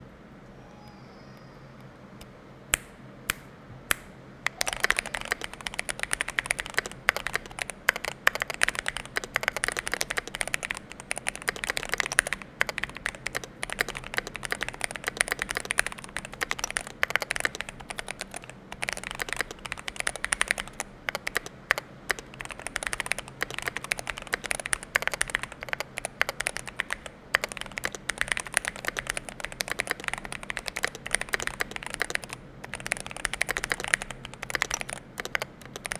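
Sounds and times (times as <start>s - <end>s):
mechanical keyboard typing: 2.8s - 35.9s.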